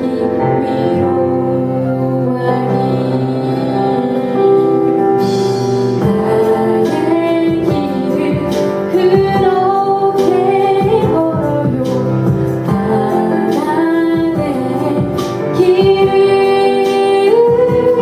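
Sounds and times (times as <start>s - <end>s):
instrumental accompaniment: 0.0s - 18.0s
woman singing into microphone: 0.0s - 18.0s.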